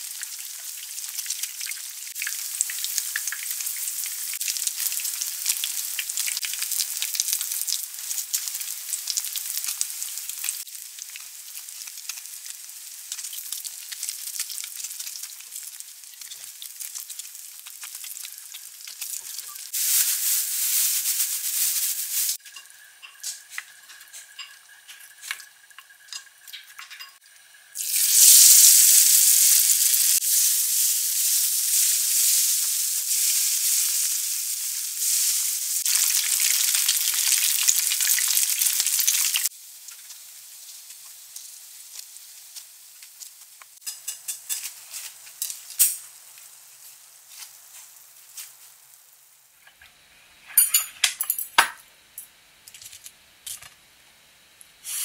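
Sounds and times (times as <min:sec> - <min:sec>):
fish frying in oil: 0:00.0 - 0:49.6.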